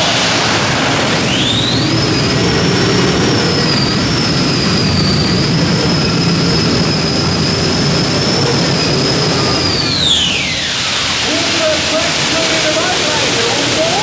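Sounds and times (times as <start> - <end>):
pulling tractor engines roaring: 0.0 - 14.0.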